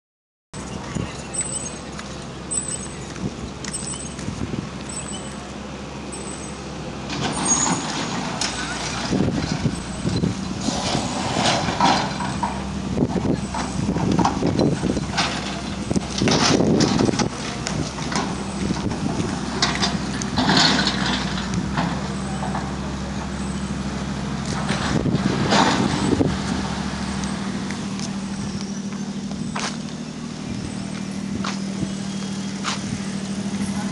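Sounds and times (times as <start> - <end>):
large engine droning: 0.6 - 33.9.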